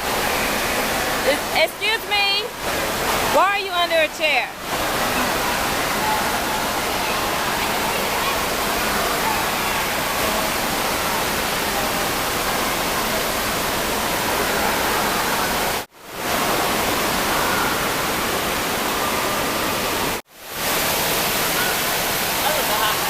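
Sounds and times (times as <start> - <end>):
water features rushing: 0.0 - 23.0.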